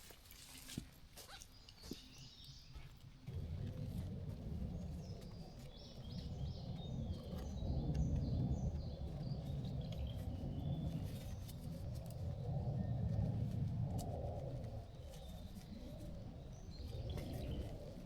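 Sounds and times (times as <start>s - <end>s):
low background rumble: 3.1s - 18.0s.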